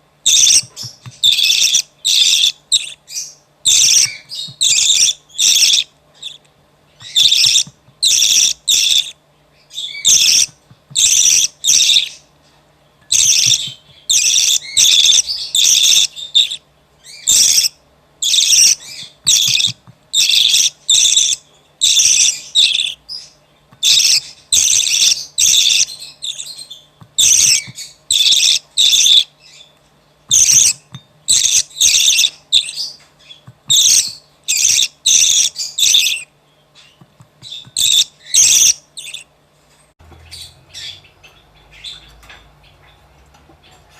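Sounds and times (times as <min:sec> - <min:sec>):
budgerigar chick chirping: 0:00.2 - 0:12.3, 0:13.1 - 0:39.3, 0:40.1 - 0:43.9.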